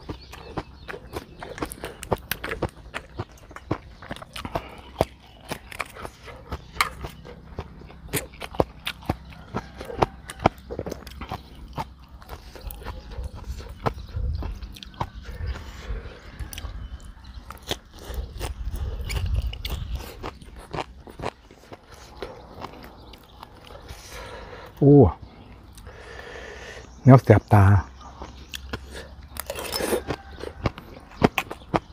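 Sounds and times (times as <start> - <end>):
crunchy chewing: 0.0 - 27.0, 27.8 - 31.9.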